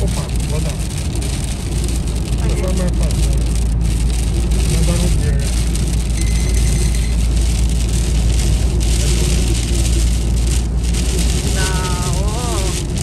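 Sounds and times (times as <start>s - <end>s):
heavy rain on windshield: 0.0s - 13.0s
road and engine rumble: 0.0s - 13.0s
windshield wipers sweeping: 0.0s - 13.0s.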